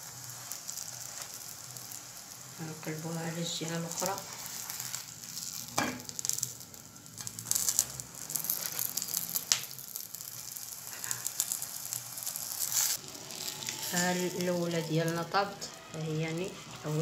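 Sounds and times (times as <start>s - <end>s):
dough frying in oil: 0.0s - 17.0s.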